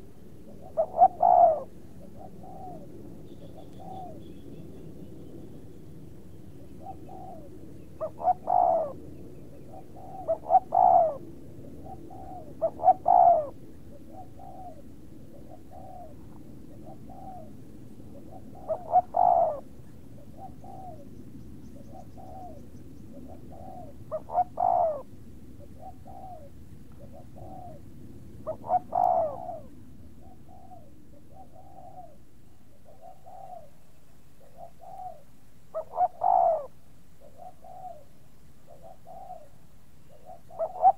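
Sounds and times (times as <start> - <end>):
birds cooing: 0.0 - 40.9.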